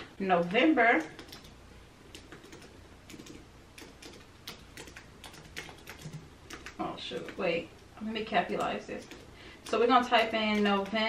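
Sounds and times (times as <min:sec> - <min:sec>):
computer keyboard keystrokes: 0:01.0 - 0:07.4, 0:08.5 - 0:11.0.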